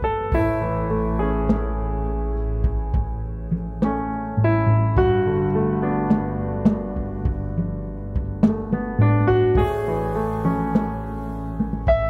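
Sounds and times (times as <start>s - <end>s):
piano background music: 0.0s - 12.0s.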